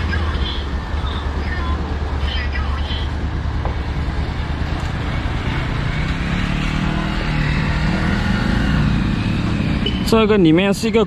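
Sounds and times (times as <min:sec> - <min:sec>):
motorcycle approaching: 0:00.0 - 0:11.0.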